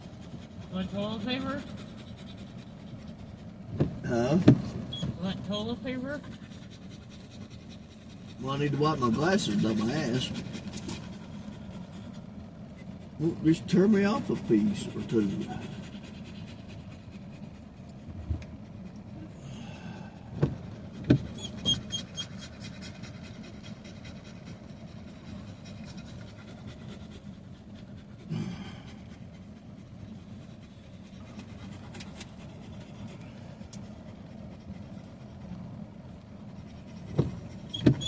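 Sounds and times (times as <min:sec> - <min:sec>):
dog panting: 0:00.0 - 0:38.0
vehicle low rumble: 0:00.0 - 0:38.0.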